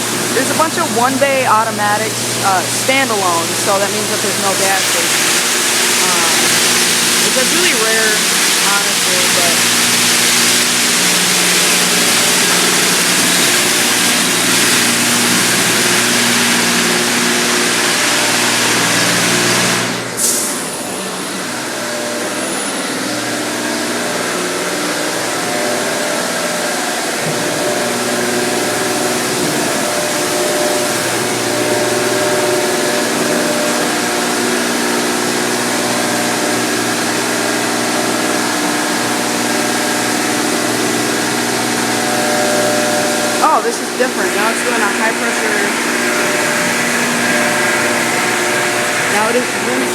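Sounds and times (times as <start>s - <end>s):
pumps and motors humming: 0.0s - 49.9s.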